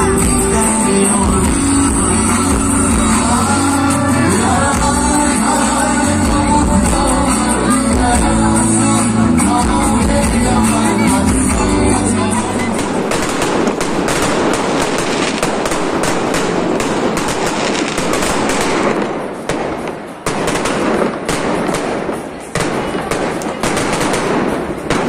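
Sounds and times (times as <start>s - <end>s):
fireworks crackling and banging: 0.0s - 8.8s, 9.8s - 25.0s.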